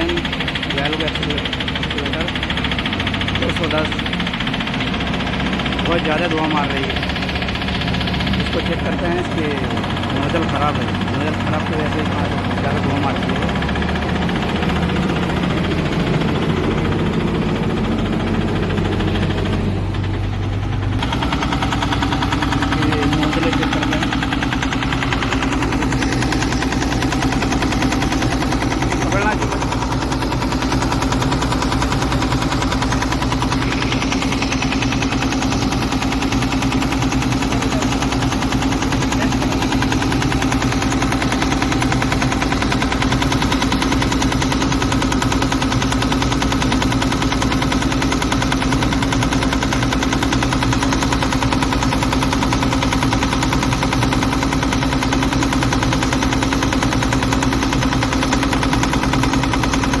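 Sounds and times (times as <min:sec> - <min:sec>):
diesel engine running with rattling knock: 0:00.0 - 1:00.0.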